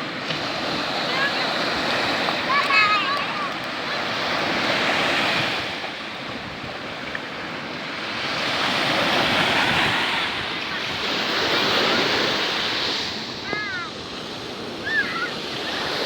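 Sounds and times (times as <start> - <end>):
surf breaking on beach: 0.0 - 16.0
wind on microphone: 0.3 - 16.0.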